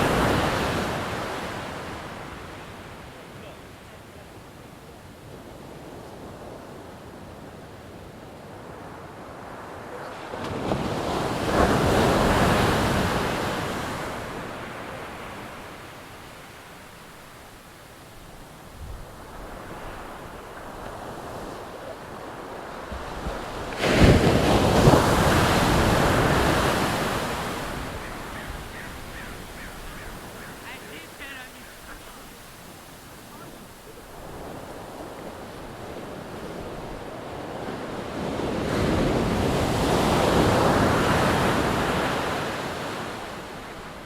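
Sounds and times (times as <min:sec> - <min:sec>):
ocean waves breaking on shore: 0:00.0 - 0:44.0.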